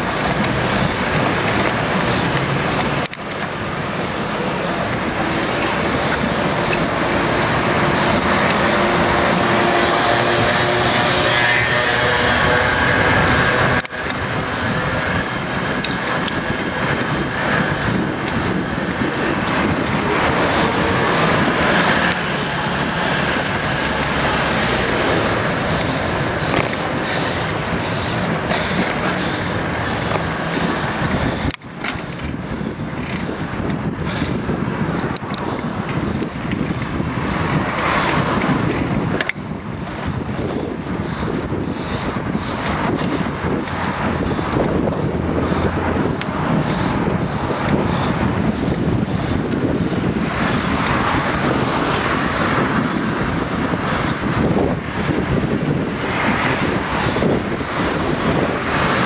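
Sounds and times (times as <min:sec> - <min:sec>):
city traffic noise: 0:00.0 - 0:59.0.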